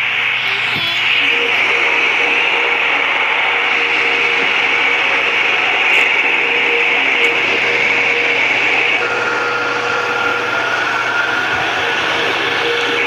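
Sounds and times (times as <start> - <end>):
fan running: 0.0 - 13.0
thin rising whine: 0.0 - 13.0.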